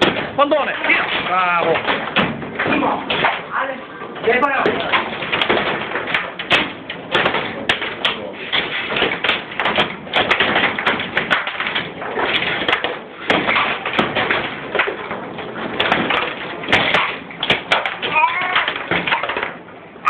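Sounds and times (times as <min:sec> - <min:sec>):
foosball ball clacking: 0:00.0 - 0:20.0
steel rods knocking and rattling: 0:00.0 - 0:20.0.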